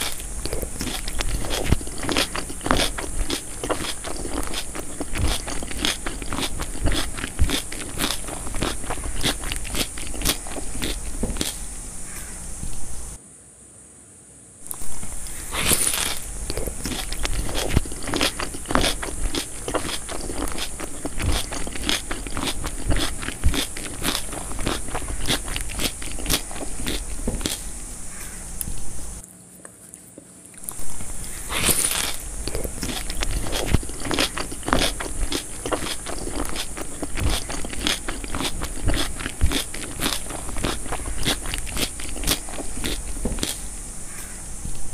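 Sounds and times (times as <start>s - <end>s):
chewing with wet mouth clicks: 0.0s - 11.6s, 14.6s - 27.6s, 28.6s - 43.7s
fingers scraping rice on plate: 0.0s - 12.3s, 14.7s - 27.6s, 31.5s - 43.6s.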